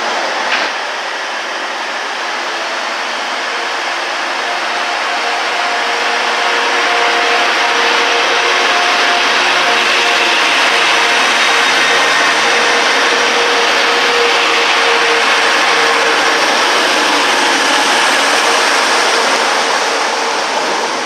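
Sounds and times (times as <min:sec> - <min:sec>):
diesel engine drone: 0:00.0 - 0:21.0
wheels rumbling on rails: 0:00.0 - 0:21.0.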